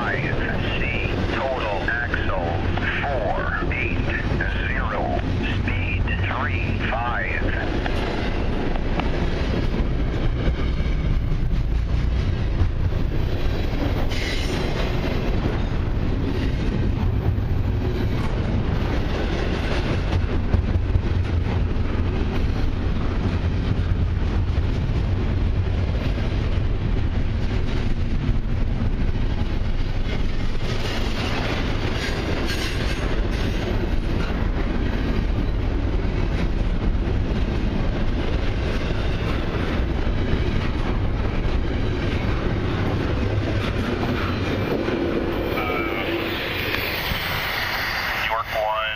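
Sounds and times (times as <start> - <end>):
freight train rumbling past: 0.0 - 48.9.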